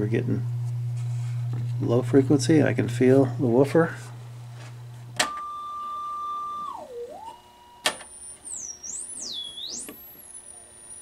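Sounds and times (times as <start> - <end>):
low hum from speaker: 0.0 - 11.0
sine test tone: 0.0 - 11.0.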